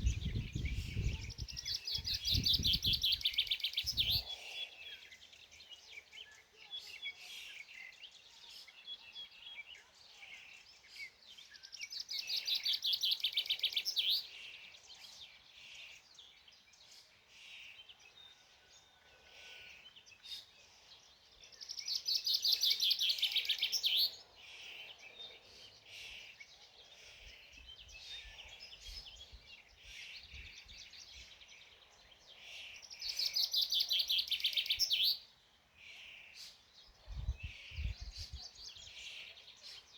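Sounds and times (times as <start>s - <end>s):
quiet bird chirps: 0.0s - 39.9s.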